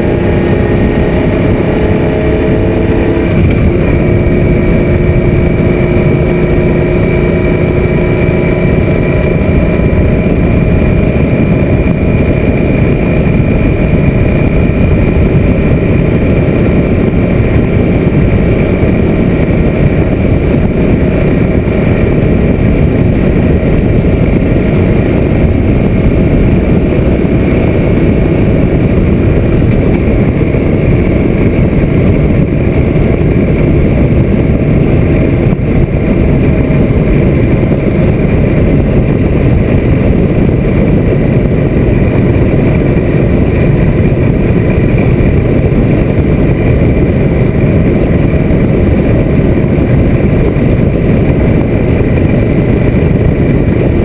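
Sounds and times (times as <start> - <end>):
motorcycle engine cruising: 0.0 - 54.0
wind rushing over camera: 0.0 - 54.0.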